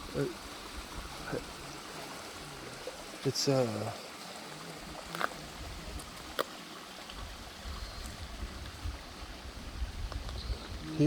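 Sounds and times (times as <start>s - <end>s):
stream water over rocks: 0.0s - 11.0s.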